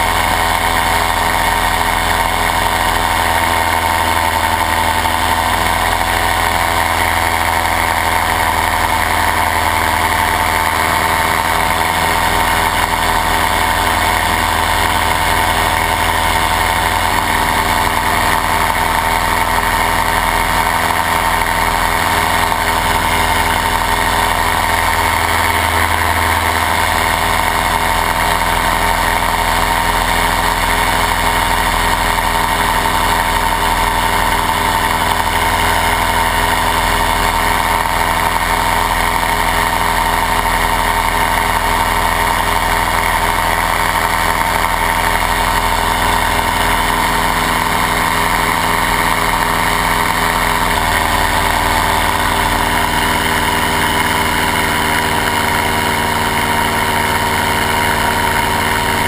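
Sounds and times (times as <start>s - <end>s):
paramotor engine running: 0.0s - 59.0s.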